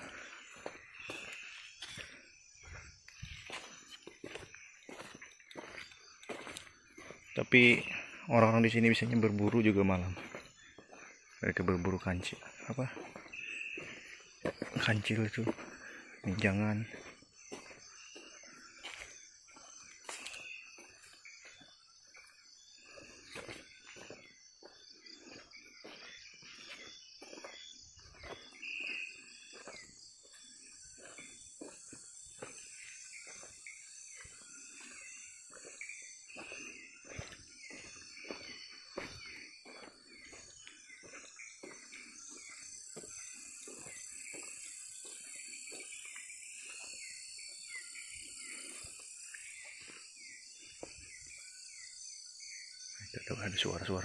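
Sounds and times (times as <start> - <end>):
footsteps crunching on leaves: 0.0 - 8.2, 9.0 - 51.4
high insect trill: 0.0 - 54.0
insects chirring: 0.0 - 54.0.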